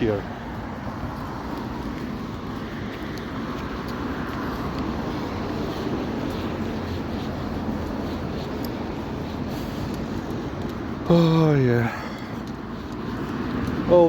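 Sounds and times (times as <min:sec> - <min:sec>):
car passing on road: 0:00.0 - 0:14.0.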